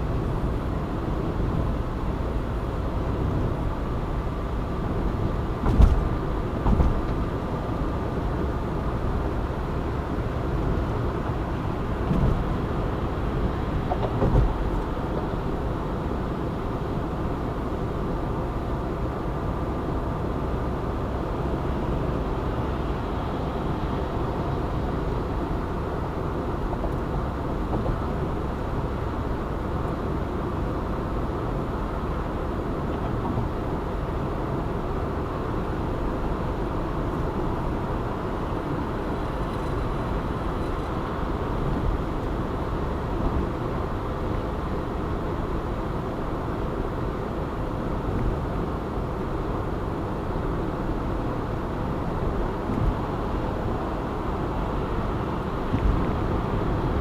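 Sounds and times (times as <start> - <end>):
car road noise at speed: 0.0 - 57.0.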